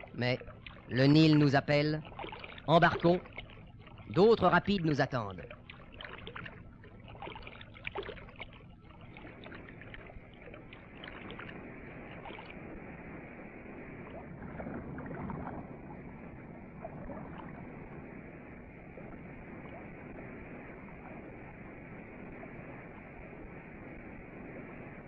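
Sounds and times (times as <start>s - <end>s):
small splashes: 0.0s - 21.4s.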